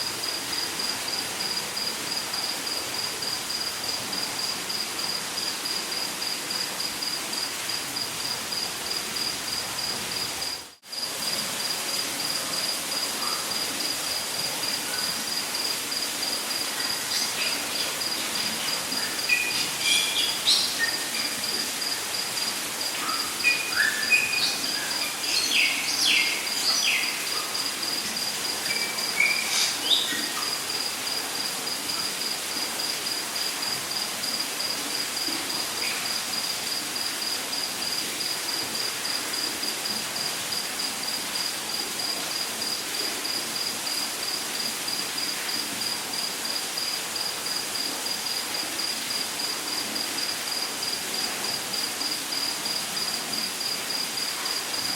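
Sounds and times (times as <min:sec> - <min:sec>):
constant hiss: 0:00.0 - 0:54.9.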